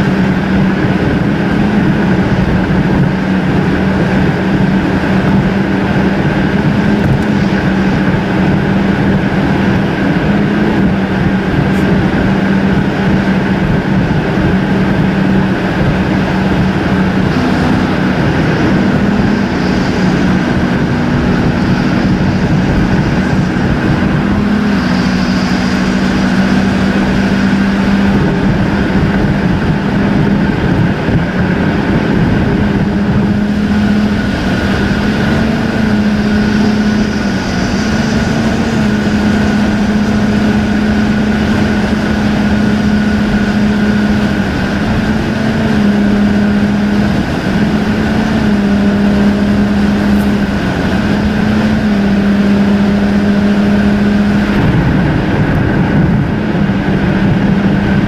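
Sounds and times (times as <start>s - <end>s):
car road noise: 0.0s - 58.0s
tyre and engine drone: 0.0s - 58.0s.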